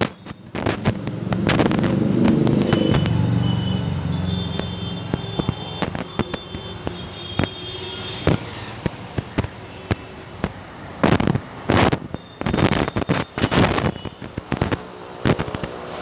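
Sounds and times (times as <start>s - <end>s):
firecracker-like cracks and pops: 0.0s - 3.2s, 4.5s - 16.0s.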